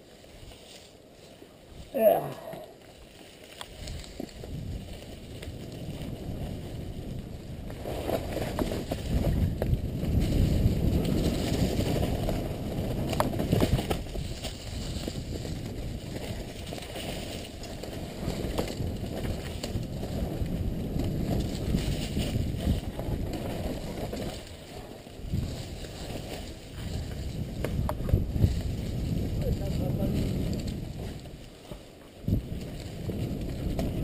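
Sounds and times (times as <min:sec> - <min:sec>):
bike tyres rolling over dirt: 0:00.0 - 0:34.0
wind noise on microphone: 0:03.6 - 0:34.0
bike knocks and rattles: 0:03.7 - 0:34.0.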